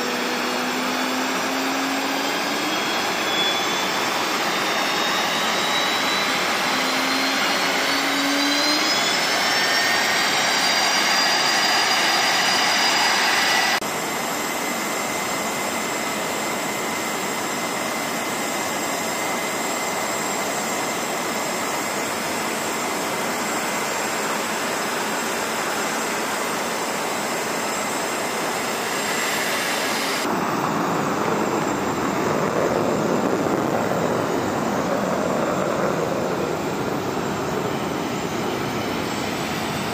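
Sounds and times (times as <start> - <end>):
high turbine whine: 0.0 - 39.9
jet engine roar: 0.0 - 39.9.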